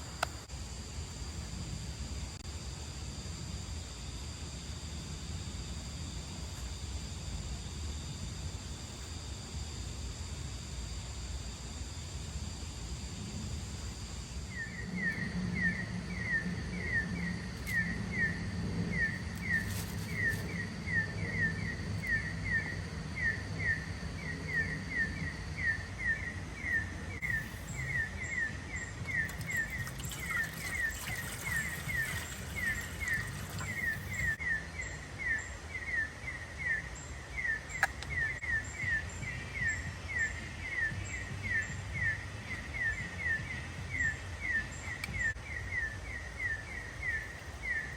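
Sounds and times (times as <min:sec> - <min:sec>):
faint high insect-like tones: 0:00.0 - 0:47.9.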